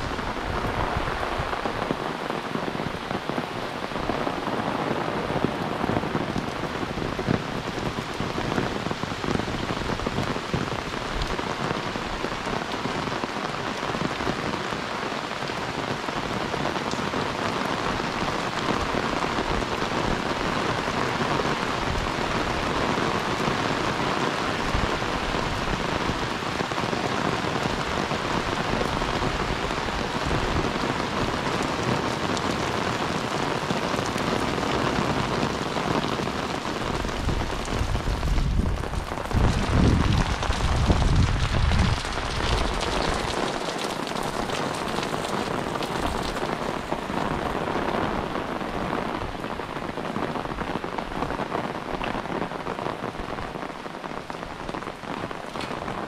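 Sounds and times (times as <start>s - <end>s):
rain on an umbrella: 0.0s - 56.0s
rain on wet road: 0.0s - 56.0s.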